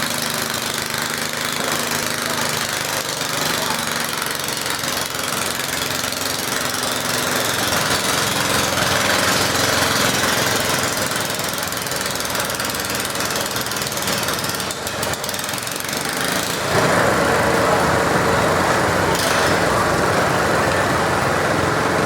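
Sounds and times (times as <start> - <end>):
small tractor engine running hard: 0.0 - 22.0.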